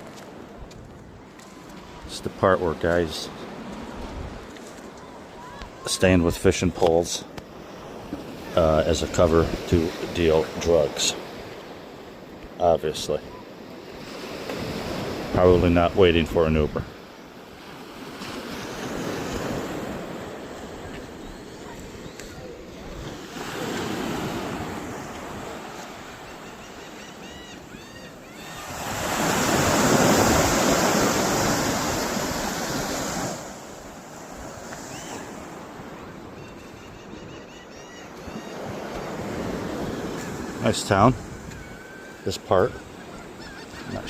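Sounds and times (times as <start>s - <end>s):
waves washing in: 0.0s - 36.5s, 38.1s - 44.0s.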